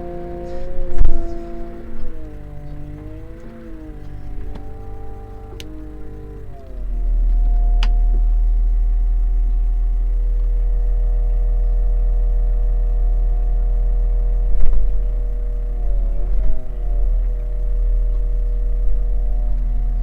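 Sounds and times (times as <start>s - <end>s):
wheel loader diesel engine running: 0.0s - 20.0s.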